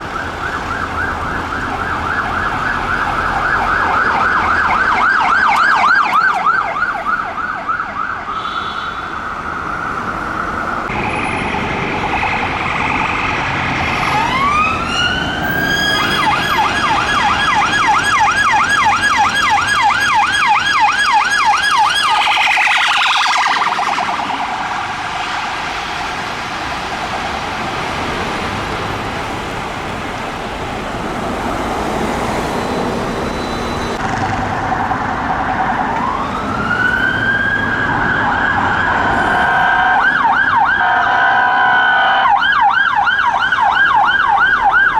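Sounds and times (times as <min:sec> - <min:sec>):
emergency vehicle sirens: 0:00.0 - 0:44.9
road traffic noise: 0:00.0 - 0:44.9.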